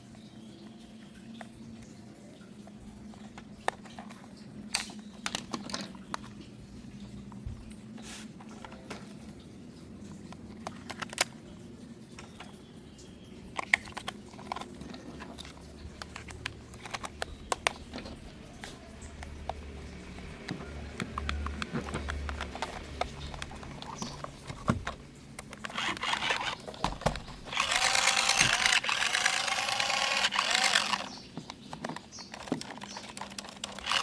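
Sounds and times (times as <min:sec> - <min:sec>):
light clicks and taps of packaging: 0:02.6 - 0:09.5, 0:10.1 - 0:12.7, 0:13.5 - 0:27.9, 0:30.6 - 0:34.0.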